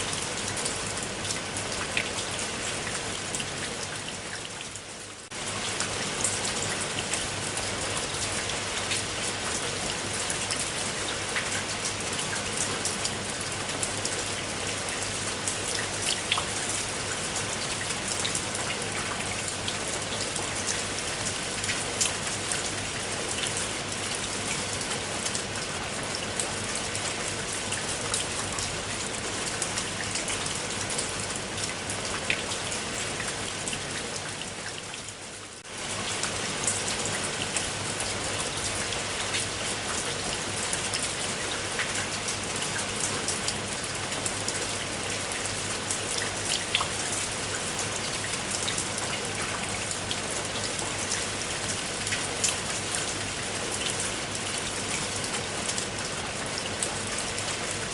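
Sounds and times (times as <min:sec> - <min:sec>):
raindrops ticking on a surface: 0:00.0 - 0:57.9
steady rain falling: 0:00.0 - 0:57.9.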